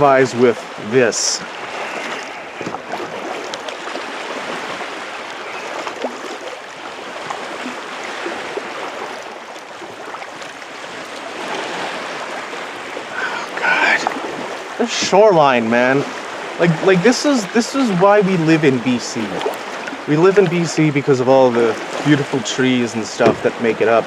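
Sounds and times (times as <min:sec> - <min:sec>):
paddle splashes and drips: 0:00.0 - 0:24.0
water sloshing around kayak: 0:00.0 - 0:24.0.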